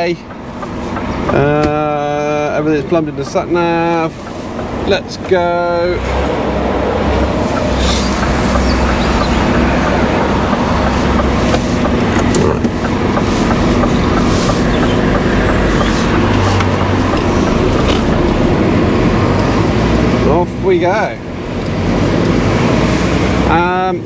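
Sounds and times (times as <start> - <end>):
road noise: 0.0 - 24.0
truck diesel engine driving off: 0.0 - 24.0.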